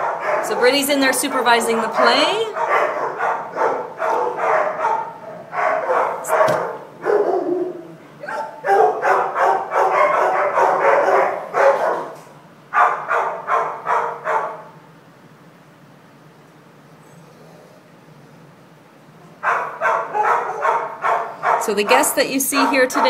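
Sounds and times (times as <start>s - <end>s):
large dogs barking: 0.0s - 14.8s, 19.2s - 23.0s.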